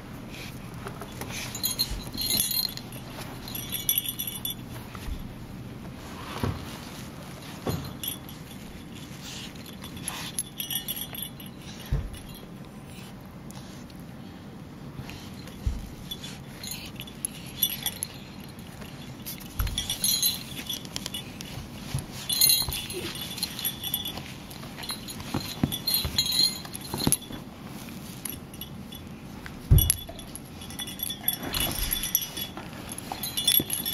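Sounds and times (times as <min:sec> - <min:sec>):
puppies scuffling on couch: 0:00.2 - 0:13.9, 0:15.0 - 0:33.9
chain collar jingling: 0:01.0 - 0:05.2, 0:07.6 - 0:12.9, 0:15.1 - 0:33.9.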